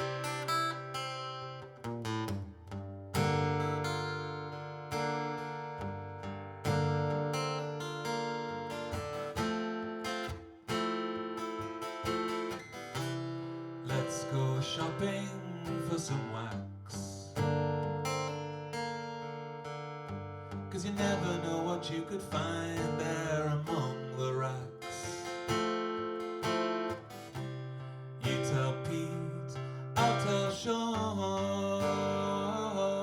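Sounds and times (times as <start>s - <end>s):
acoustic guitar chords ringing: 0.0s - 33.0s.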